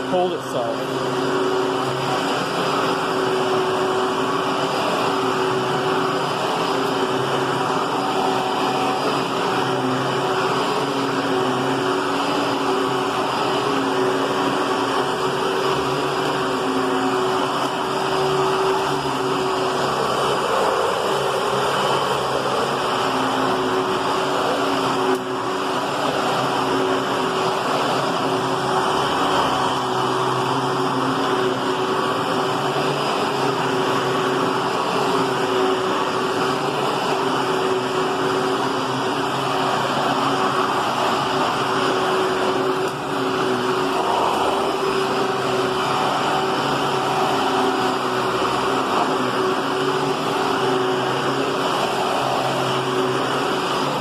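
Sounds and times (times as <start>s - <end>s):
vacuum cleaner motor hum: 0.0s - 54.0s.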